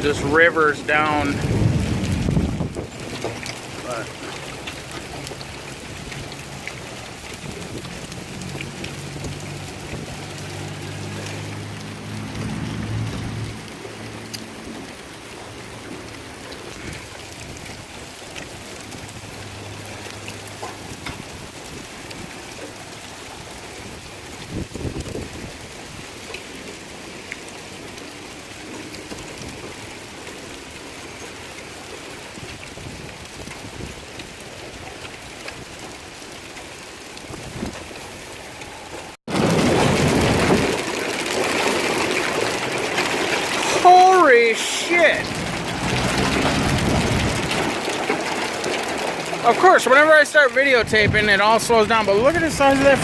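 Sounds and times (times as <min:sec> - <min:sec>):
hailstones ticking: 0:00.0 - 0:53.0
heavy rain: 0:00.0 - 0:53.0.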